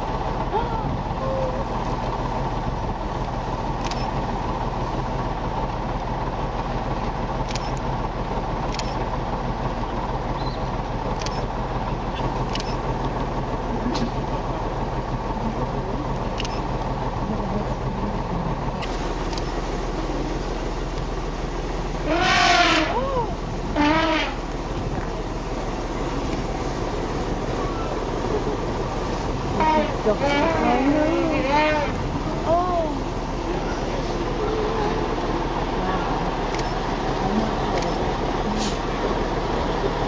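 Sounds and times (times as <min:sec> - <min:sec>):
truck engine humming: 0:00.0 - 0:40.0.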